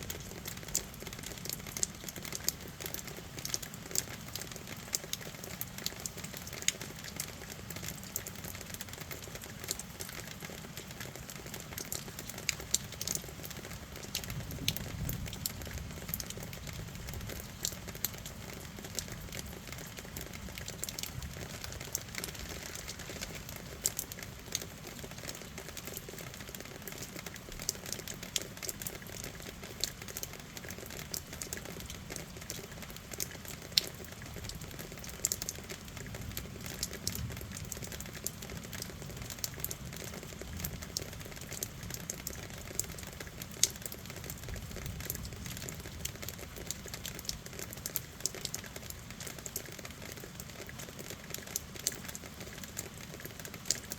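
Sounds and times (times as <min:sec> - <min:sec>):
raindrops ticking close: 0:00.0 - 0:53.9
steady rain falling: 0:00.0 - 0:53.9.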